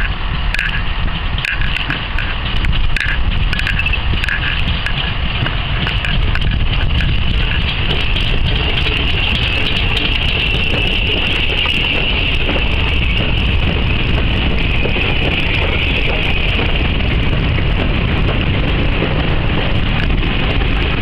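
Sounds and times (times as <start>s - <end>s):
steam locomotive rumbling past: 0.0s - 21.0s
wheels clattering over rail joints: 0.0s - 21.0s.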